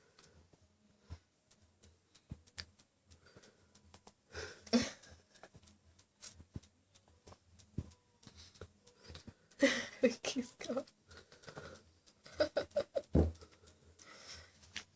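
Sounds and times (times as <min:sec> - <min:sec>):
faint clicks and taps: 0:00.0 - 0:14.9.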